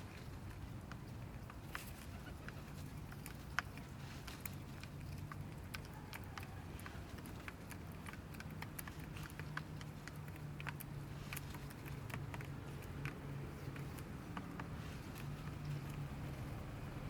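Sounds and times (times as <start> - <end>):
birds pecking: 0.0 - 17.0.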